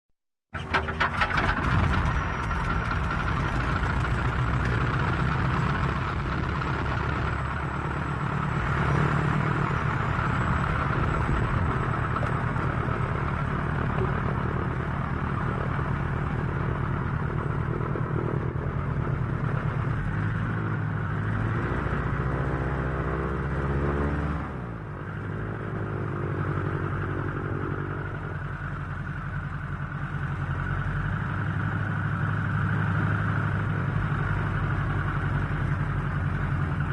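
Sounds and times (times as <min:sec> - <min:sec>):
airplane engines during takeoff: 0:00.6 - 0:36.9
rising engine whine: 0:00.8 - 0:36.9.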